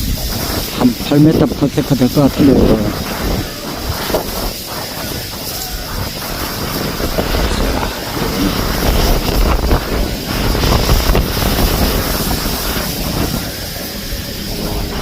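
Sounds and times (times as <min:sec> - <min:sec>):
electric ducted fans whining: 0:00.0 - 0:15.0
wind buffeting microphone: 0:00.0 - 0:15.0.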